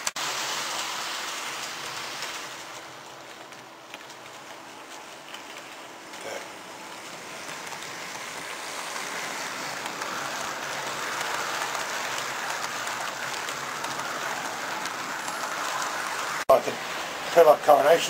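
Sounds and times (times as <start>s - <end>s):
model train wheels rattling: 0.0s - 18.0s.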